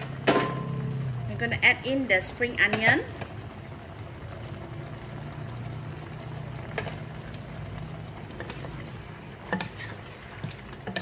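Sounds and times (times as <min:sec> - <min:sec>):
low steady hum: 0:00.0 - 0:11.0
sauce simmering and bubbling: 0:00.0 - 0:11.0.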